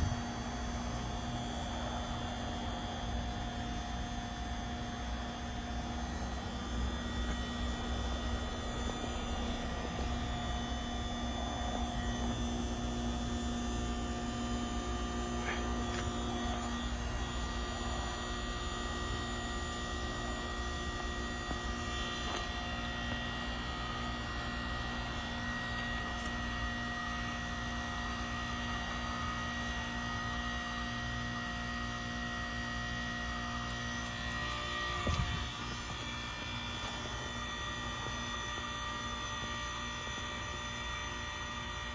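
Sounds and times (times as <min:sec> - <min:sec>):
heat pump humming: 0:00.0 - 0:41.9
motor tones: 0:00.0 - 0:41.9.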